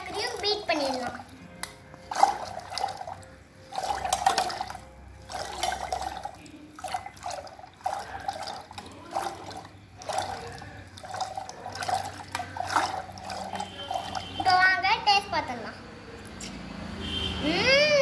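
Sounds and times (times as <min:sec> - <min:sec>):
churner sloshing in water: 0:00.0 - 0:14.7.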